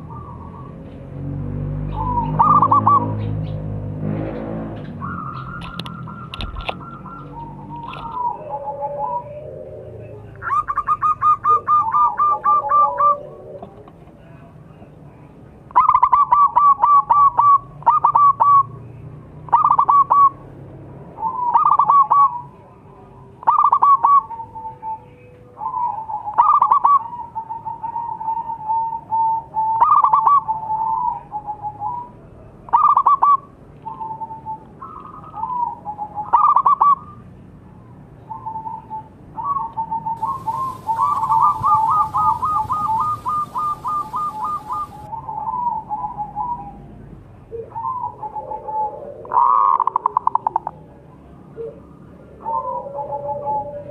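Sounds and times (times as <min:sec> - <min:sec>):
dove cooing: 0:01.9 - 0:03.4, 0:05.0 - 0:14.4, 0:15.8 - 0:18.8, 0:19.5 - 0:20.4, 0:21.2 - 0:22.6, 0:23.4 - 0:37.2, 0:38.3 - 0:53.9.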